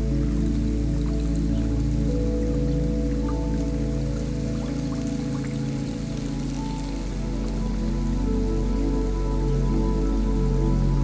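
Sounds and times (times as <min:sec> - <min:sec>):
ambient music with held drones: 0:00.0 - 0:11.0
soft rain-like patter: 0:00.0 - 0:11.0.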